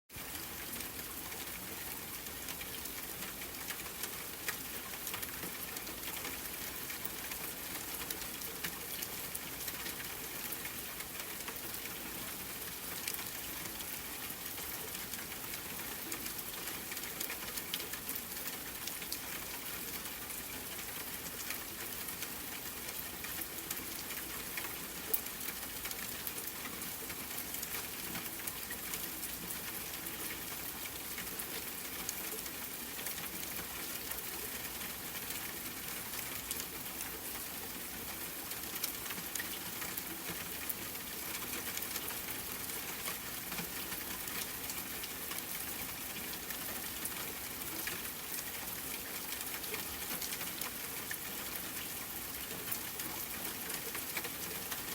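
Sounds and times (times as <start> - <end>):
steady rain patter: 0.1 - 54.9.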